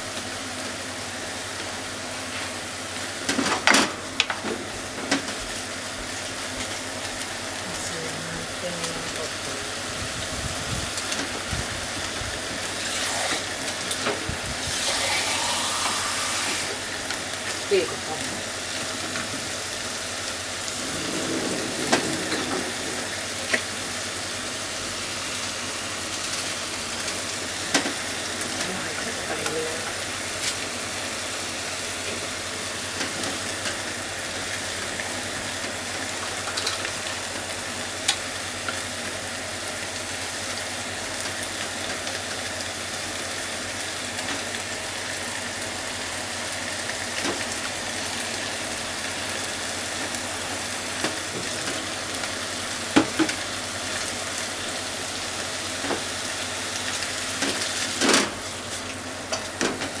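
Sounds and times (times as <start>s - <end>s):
food sizzling in frying pan: 0.0s - 60.0s.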